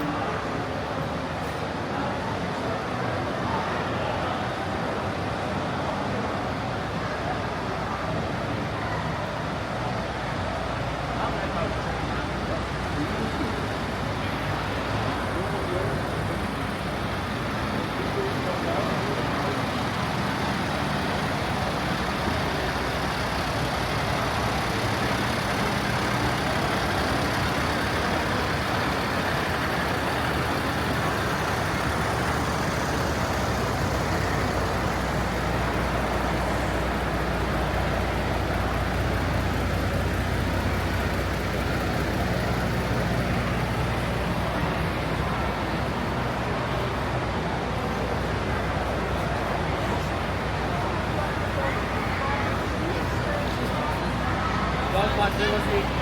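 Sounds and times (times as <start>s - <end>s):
general outdoor noise: 0.0s - 56.0s
truck engines running: 0.0s - 56.0s
deep low engine hum: 10.0s - 56.0s.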